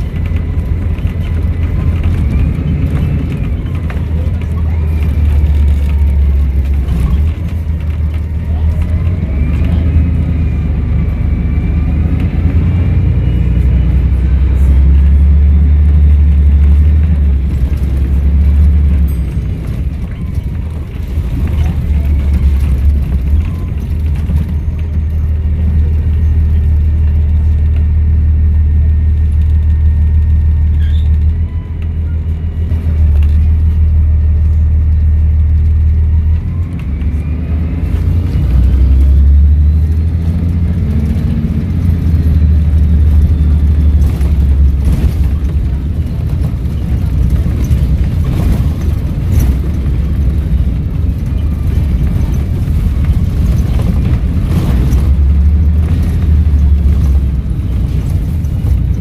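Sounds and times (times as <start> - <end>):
bus diesel engine rumble: 0.0 - 59.0.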